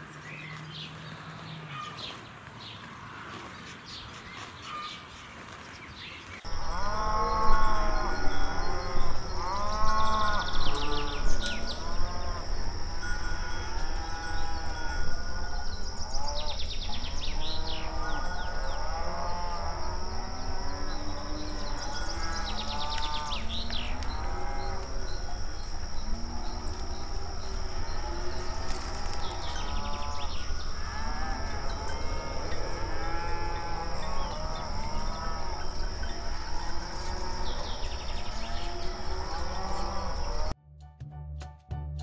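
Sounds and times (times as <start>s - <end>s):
cattle mooing: 6.5s - 40.5s.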